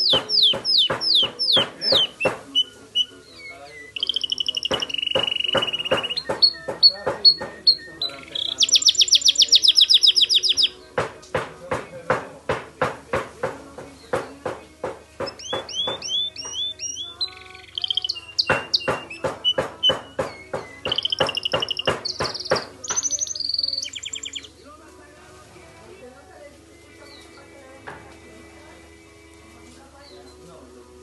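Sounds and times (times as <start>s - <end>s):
canary singing: 0.0s - 31.0s.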